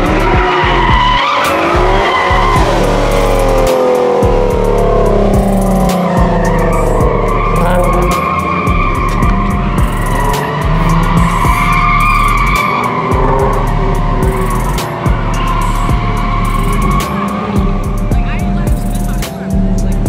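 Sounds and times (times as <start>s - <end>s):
car engine at high revs: 0.0s - 20.0s
car tyres squealing: 0.0s - 20.0s.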